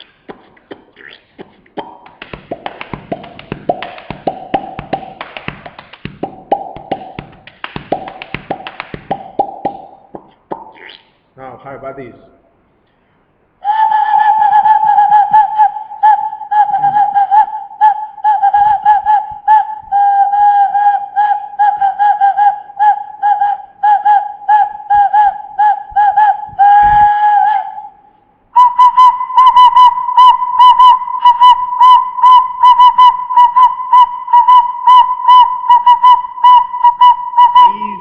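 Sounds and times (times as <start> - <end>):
person making warbling whistle sound: 0.7 - 11.1, 13.6 - 28.0, 28.6 - 38.0.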